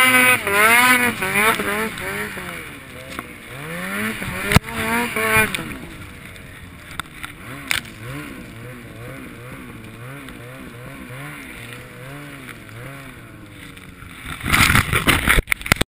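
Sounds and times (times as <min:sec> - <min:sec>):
snowmobile engine revving: 0:00.0 - 0:15.4.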